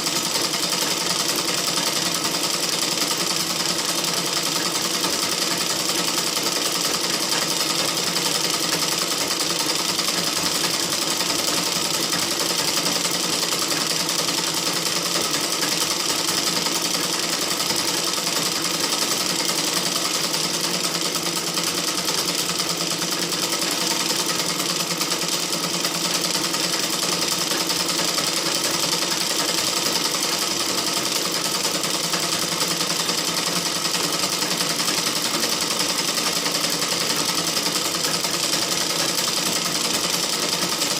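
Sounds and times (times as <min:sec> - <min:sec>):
sewing machine running: 0:00.0 - 0:40.9.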